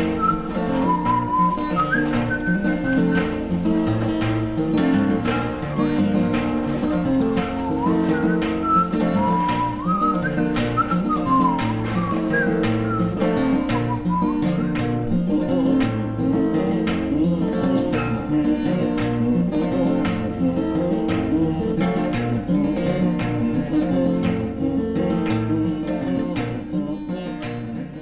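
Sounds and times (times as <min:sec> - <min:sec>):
strummed acoustic guitar music: 0:00.0 - 0:28.0.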